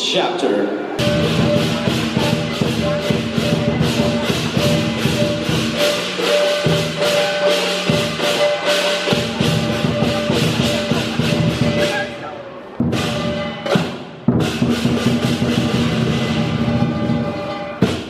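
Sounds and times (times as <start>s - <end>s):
big drum beating: 1.0s - 18.0s
clashing cymbals: 1.0s - 18.0s.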